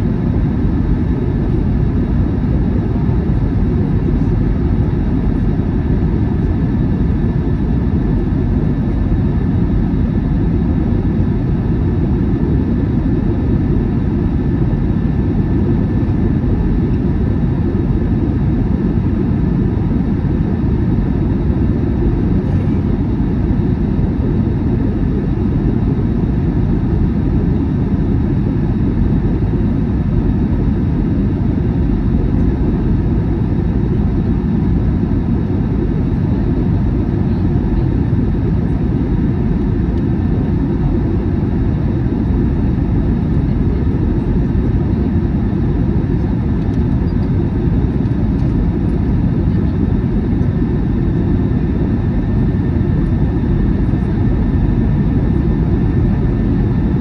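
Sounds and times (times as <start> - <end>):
jet engine and airflow roar: 0.0 - 57.0.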